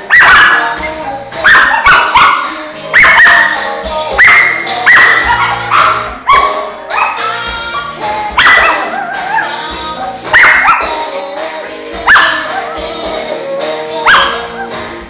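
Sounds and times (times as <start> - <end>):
dogs barking: 0.0 - 11.1, 12.0 - 12.9, 14.0 - 14.9
background music: 0.0 - 15.0.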